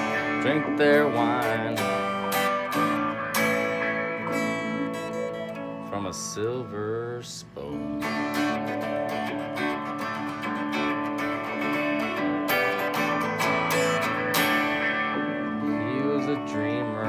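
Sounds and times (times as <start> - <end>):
electric guitar strumming chords: 0.0 - 17.0.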